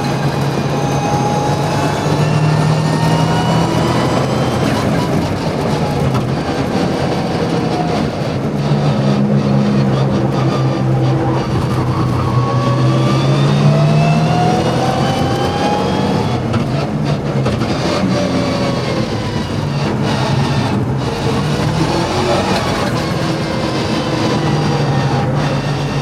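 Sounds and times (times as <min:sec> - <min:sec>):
rally car engine accelerating hard: 0:00.0 - 0:26.0.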